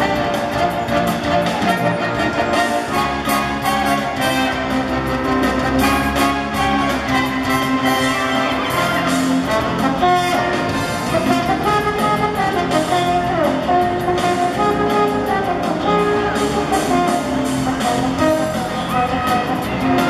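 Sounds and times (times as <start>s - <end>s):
circus band brass music: 0.0s - 20.0s.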